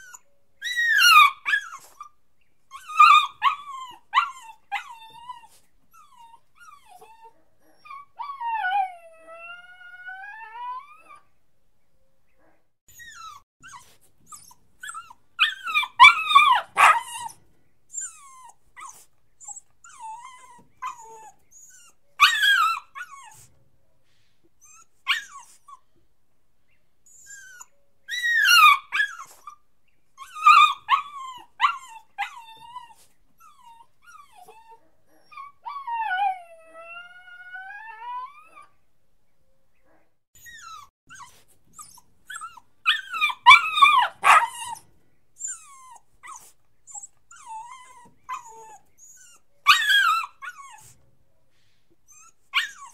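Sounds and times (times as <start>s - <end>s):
puppy whimpering and yelping: 0.0s - 11.3s, 12.9s - 23.6s, 24.6s - 25.9s, 27.1s - 29.6s, 30.2s - 38.8s, 40.4s - 44.8s, 45.4s - 51.0s, 52.1s - 52.9s.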